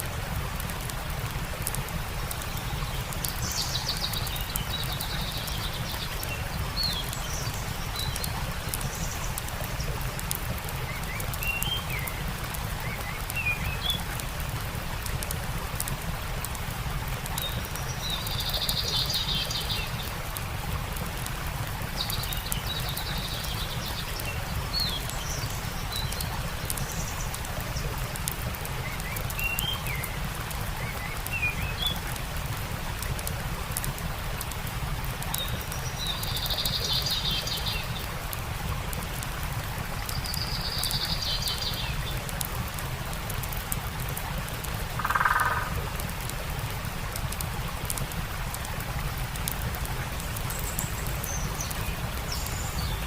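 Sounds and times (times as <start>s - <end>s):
campfire crackling: 0.0s - 53.0s
stream rushing: 0.0s - 53.0s.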